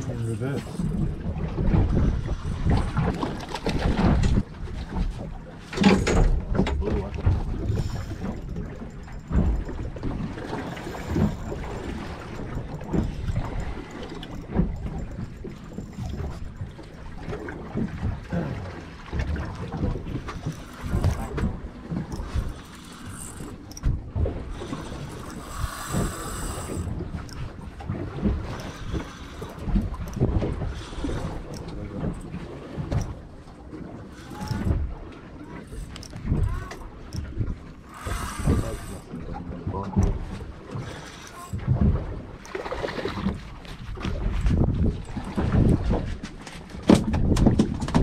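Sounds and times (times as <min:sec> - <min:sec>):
wind buffeting microphone: 0:00.0 - 0:40.9, 0:41.5 - 0:48.0
water noise around boat: 0:00.0 - 0:48.0.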